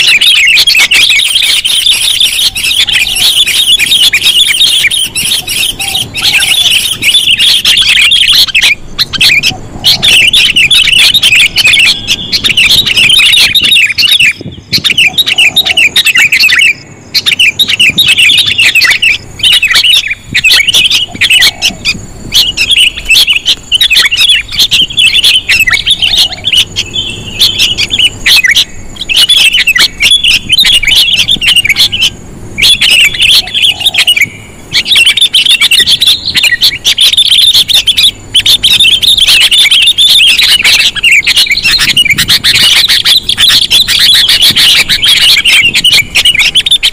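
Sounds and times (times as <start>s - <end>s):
birds chirping and chattering: 0.0s - 46.9s.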